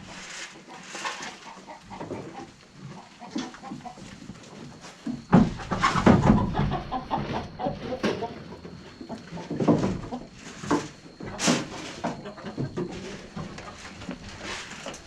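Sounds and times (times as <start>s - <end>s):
goats jostling: 0.0s - 15.0s.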